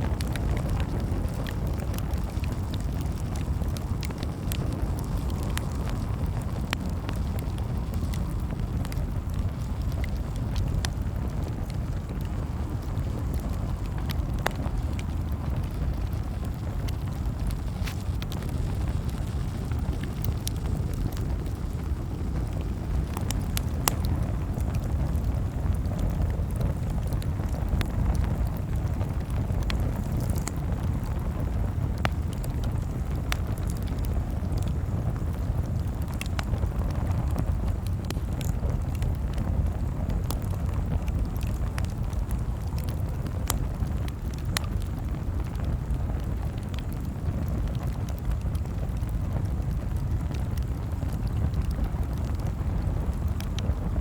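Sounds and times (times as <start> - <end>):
campfire crackling and popping: 0.0 - 54.0
low fire rumble: 0.0 - 54.0.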